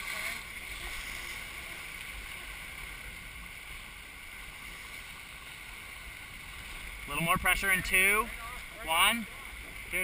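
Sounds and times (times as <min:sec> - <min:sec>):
water rushing along boat hull: 0:00.0 - 0:10.0.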